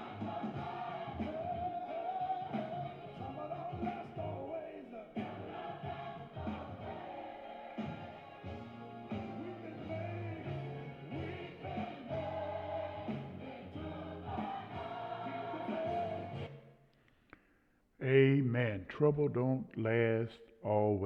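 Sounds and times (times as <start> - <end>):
gospel singing with accompaniment: 0.0 - 17.5.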